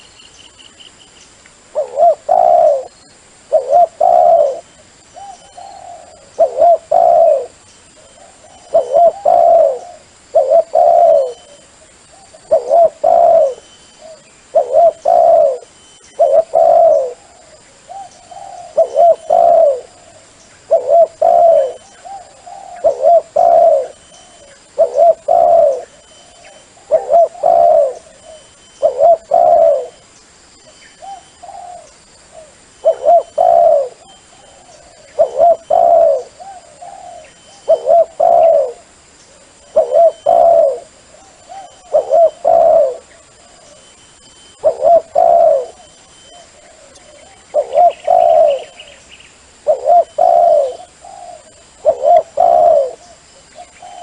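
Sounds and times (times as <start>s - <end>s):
dove cooing: 1.7s - 30.0s, 31.0s - 49.0s, 49.6s - 54.0s.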